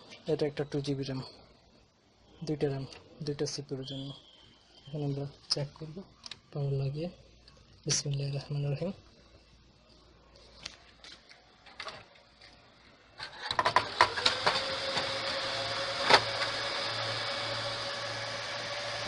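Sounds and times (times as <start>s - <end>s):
server cooling fans whirring: 2.2s - 19.0s.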